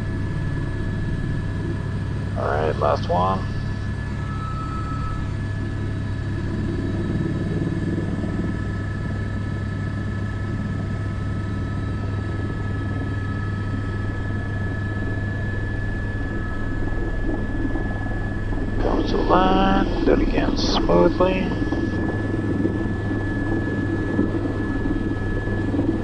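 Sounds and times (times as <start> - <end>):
helicopter in flight: 0.0 - 26.0.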